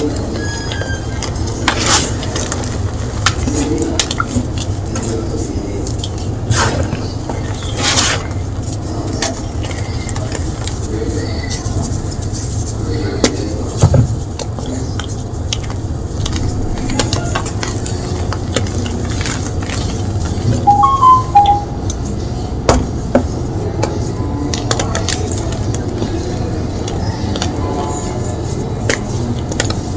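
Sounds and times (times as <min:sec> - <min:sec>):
low background hum: 0:00.0 - 0:29.9.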